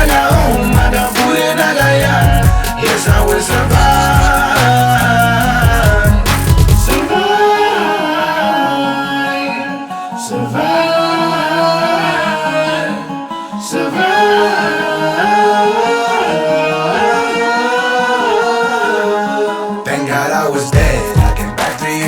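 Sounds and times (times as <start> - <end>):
plucked guitar melody: 0.0 - 22.0
wordless sung vocals: 0.0 - 22.0.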